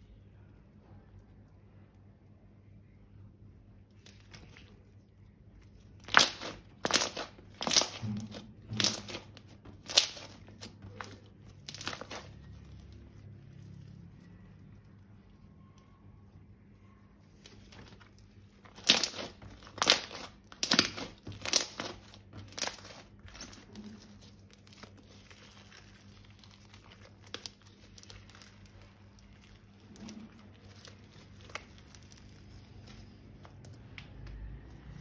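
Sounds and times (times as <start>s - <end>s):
plastic crinkling: 3.9s - 16.0s, 17.1s - 34.4s.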